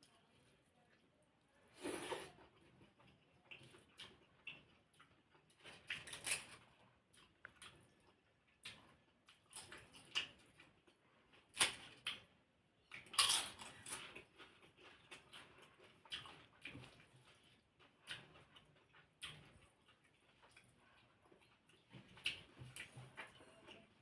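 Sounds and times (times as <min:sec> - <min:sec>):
person chewing and crunching: 0:01.8 - 0:24.0.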